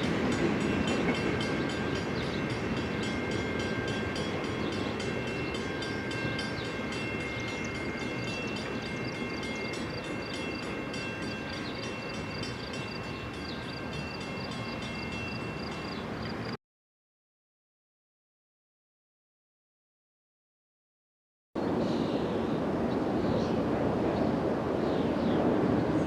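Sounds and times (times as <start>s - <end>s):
freight train rumbling on rails: 0.0s - 16.6s, 21.6s - 26.0s.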